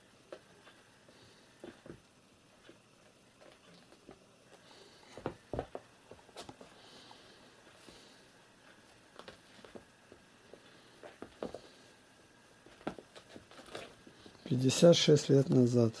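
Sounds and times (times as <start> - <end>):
kittens' paws pattering on rug: 0.3 - 11.9, 12.6 - 14.4.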